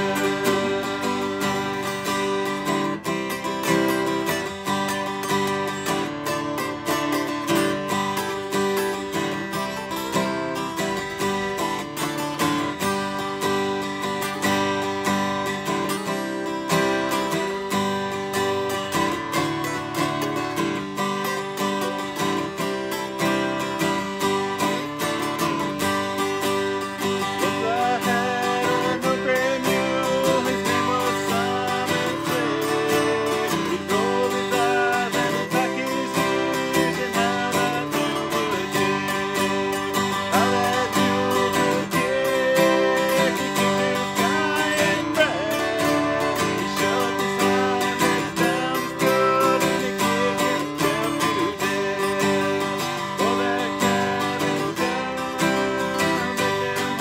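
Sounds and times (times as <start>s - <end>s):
acoustic guitars strumming: 0.0s - 57.0s.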